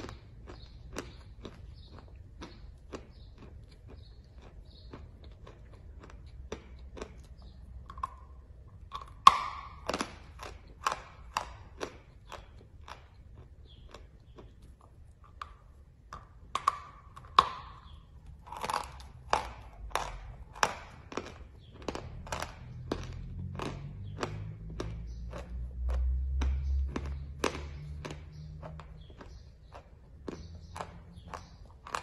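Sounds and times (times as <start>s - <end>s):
crunchy chewing: 0.0s - 32.0s.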